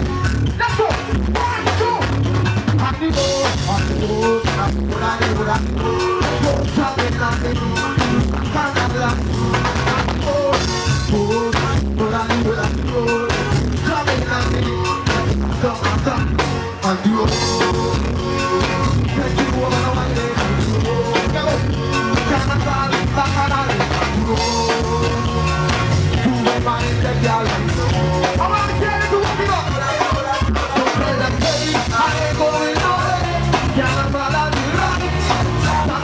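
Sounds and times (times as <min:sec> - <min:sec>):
band playing upbeat music: 0:00.0 - 0:36.0
drum kit beat: 0:00.0 - 0:36.0.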